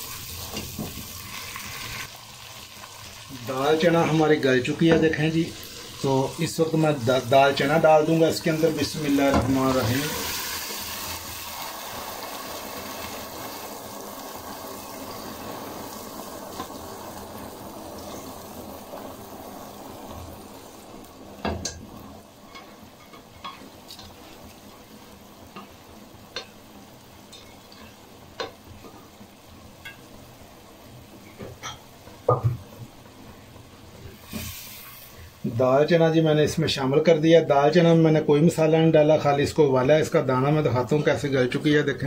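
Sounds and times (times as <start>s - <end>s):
food sizzling in hot oil: 0.0s - 42.0s.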